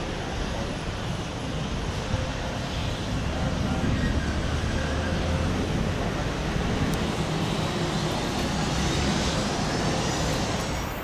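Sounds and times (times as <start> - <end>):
distant jet engines rumbling: 0.0 - 11.0.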